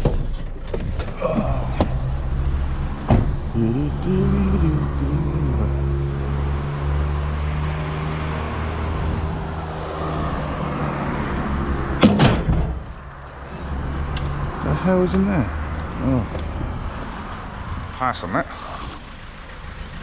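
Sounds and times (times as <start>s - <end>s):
van engine running: 0.0s - 20.0s.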